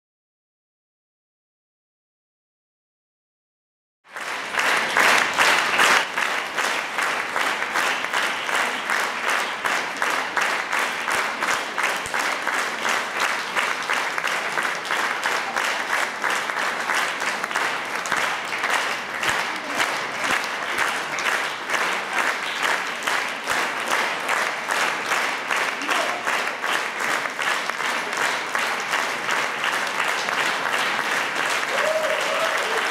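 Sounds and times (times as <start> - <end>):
audience applauding: 4.1 - 32.9.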